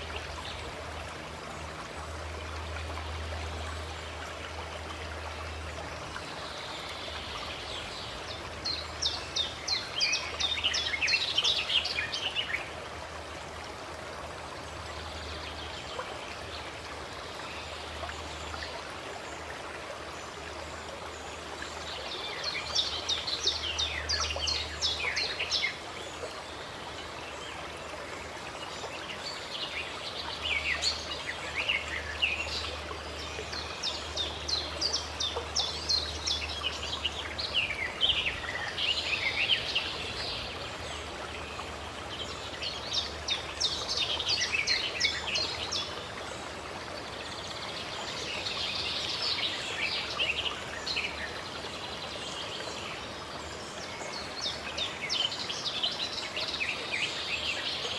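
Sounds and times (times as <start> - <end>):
running water: 0.0 - 57.9.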